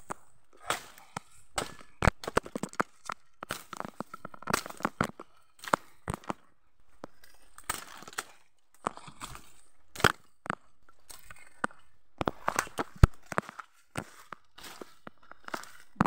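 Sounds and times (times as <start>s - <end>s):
footsteps through dry undergrowth: 0.0s - 16.0s.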